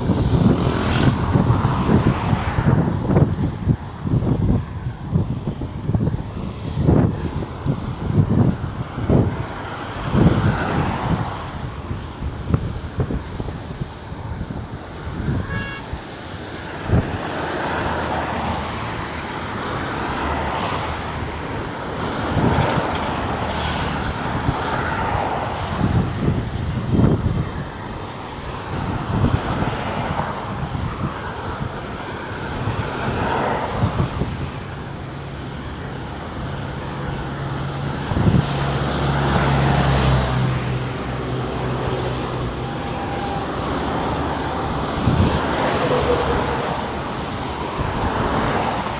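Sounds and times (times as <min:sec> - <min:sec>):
heavy vehicle engine hum: 0:00.0 - 0:48.9
vehicles passing on highway: 0:00.0 - 0:48.9.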